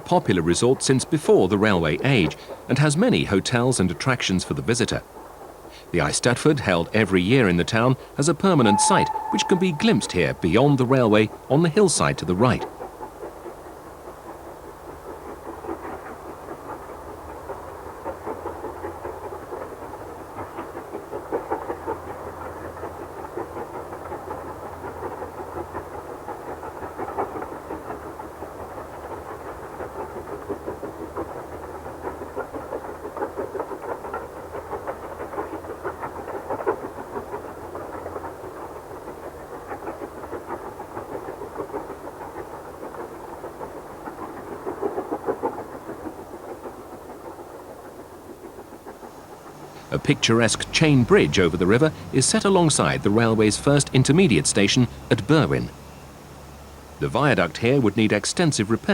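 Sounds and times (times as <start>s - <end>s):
train wheels rolling on rails: 0.0s - 58.9s.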